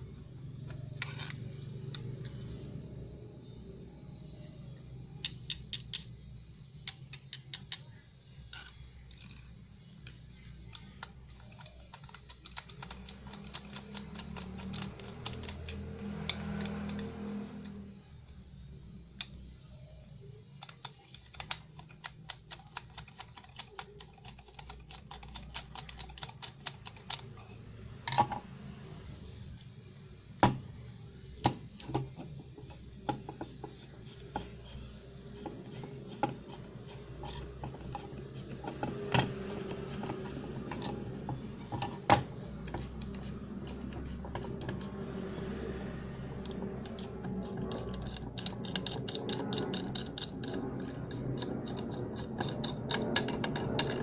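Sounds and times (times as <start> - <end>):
tools and small parts clicking: 0.5 - 2.8, 4.2 - 29.7, 31.4 - 54.0.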